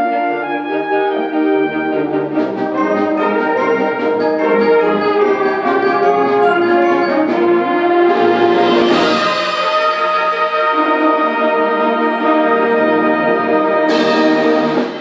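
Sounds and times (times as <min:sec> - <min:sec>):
symphonic band playing chords: 0:00.0 - 0:15.0.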